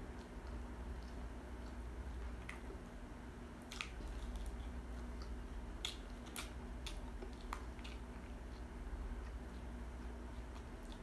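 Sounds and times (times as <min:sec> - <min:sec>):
chewing crispy chicken: 0:00.0 - 0:02.9, 0:03.5 - 0:11.0
steady low hum: 0:00.0 - 0:11.0.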